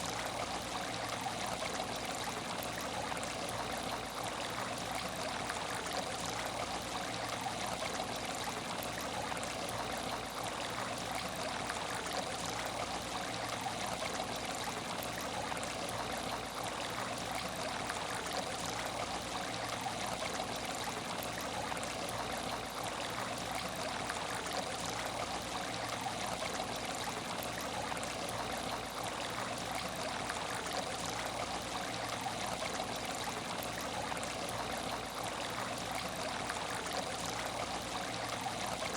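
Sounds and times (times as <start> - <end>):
water running in aquarium: 0.0 - 38.9.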